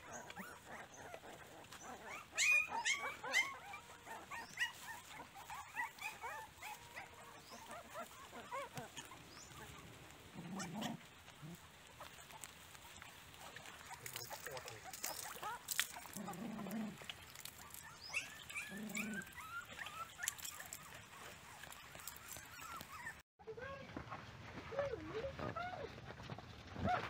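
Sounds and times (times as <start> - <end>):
puppies whimpering and squealing: 0.0 - 23.2.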